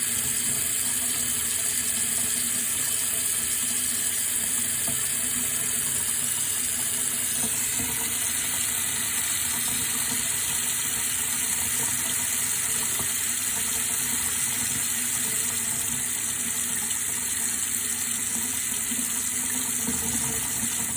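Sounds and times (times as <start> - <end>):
water running: 0.0 - 20.9.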